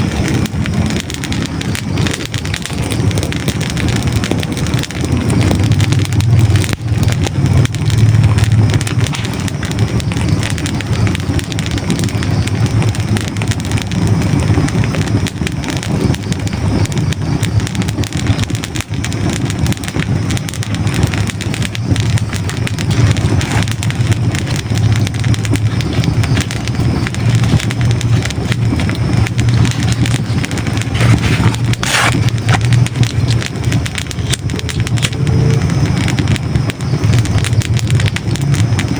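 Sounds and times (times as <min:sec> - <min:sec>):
fire crackling in a fireplace: 0:00.0 - 0:38.9
sharp pop of burning log: 0:00.0 - 0:38.9.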